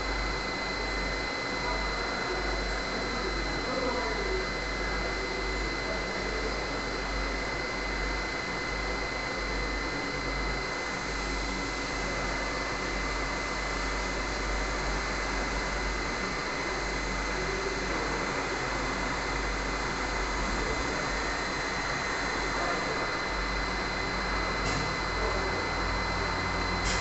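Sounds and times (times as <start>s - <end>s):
machine running with high whine: 0.0s - 27.0s.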